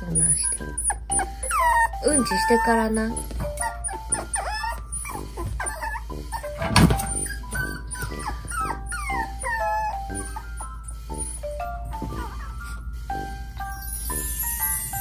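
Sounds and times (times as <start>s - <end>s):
background music: 0.0s - 15.0s
puppies whining and yipping: 0.0s - 15.0s.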